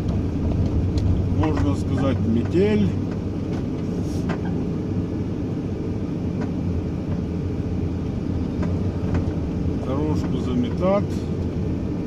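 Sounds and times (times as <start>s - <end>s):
engine and road noise in cab: 0.0s - 12.0s.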